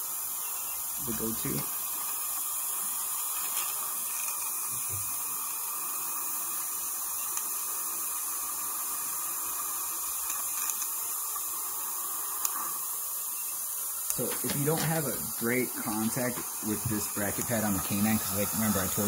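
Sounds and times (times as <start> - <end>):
dental suction hiss: 0.0 - 19.0.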